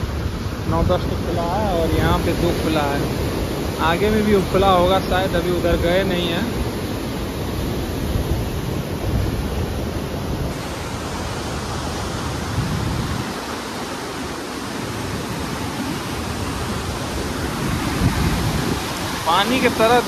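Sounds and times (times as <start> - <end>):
floodwater rushing and churning: 0.0 - 20.0.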